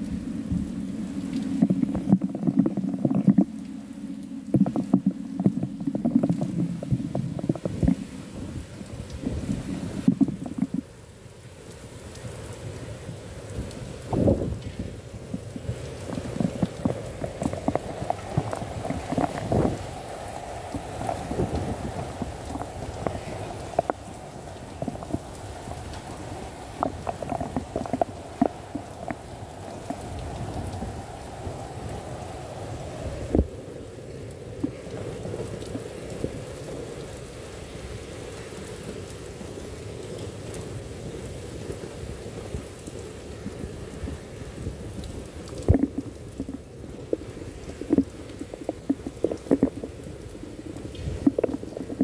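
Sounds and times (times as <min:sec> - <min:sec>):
close raindrops striking: 0:00.0 - 0:52.0
heavy rain downpour: 0:00.0 - 0:52.0.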